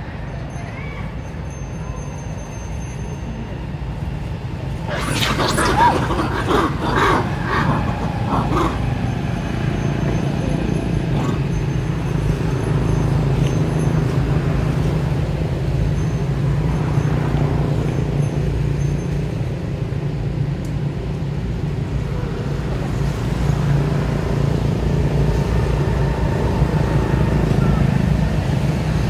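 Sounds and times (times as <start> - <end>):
vehicle engines rumbling: 0.0 - 29.0.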